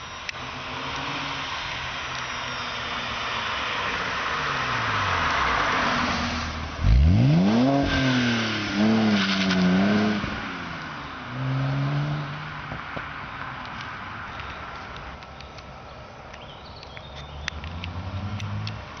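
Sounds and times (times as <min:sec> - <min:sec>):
car engine revving: 0:00.0 - 0:14.4, 0:17.3 - 0:19.0.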